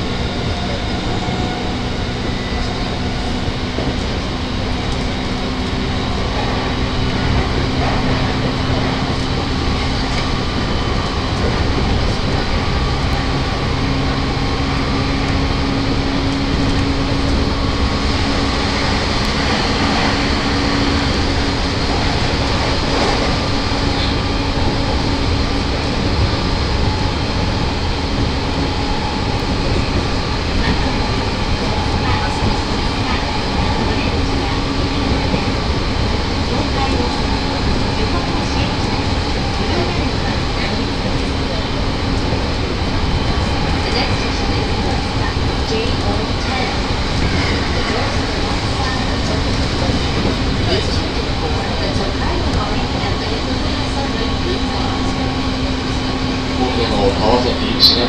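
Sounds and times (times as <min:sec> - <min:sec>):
traction motor hum: 0:00.0 - 0:58.0
wheels rumbling on rail: 0:00.0 - 0:58.0.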